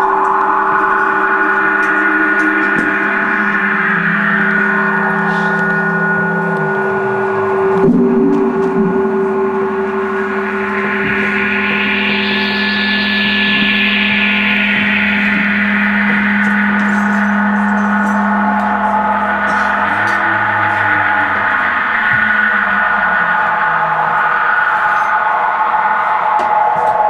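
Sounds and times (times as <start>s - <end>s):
low held drone tones: 0.0s - 27.0s.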